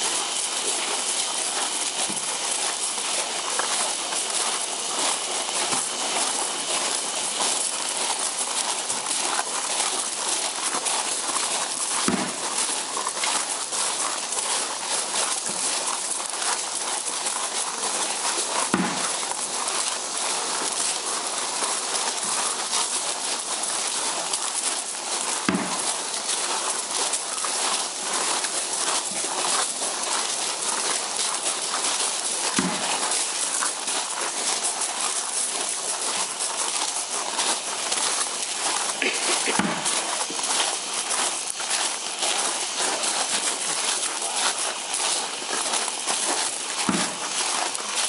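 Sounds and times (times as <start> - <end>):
insect chorus: 0.0 - 48.0.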